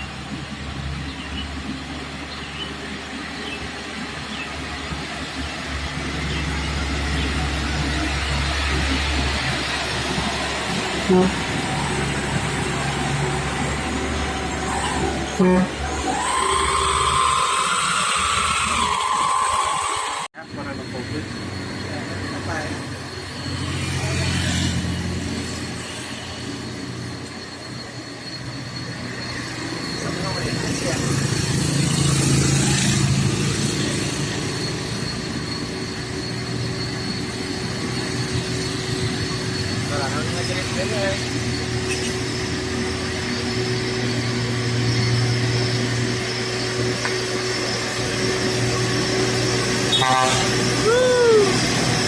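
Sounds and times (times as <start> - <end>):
road noise: 0.0 - 52.0
truck diesel engine passing: 0.0 - 52.0.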